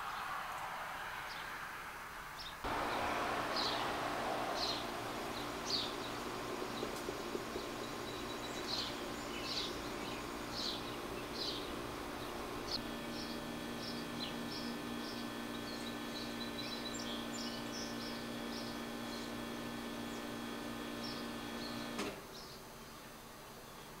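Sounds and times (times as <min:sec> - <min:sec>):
steady buzzing hum: 0:02.6 - 0:24.0.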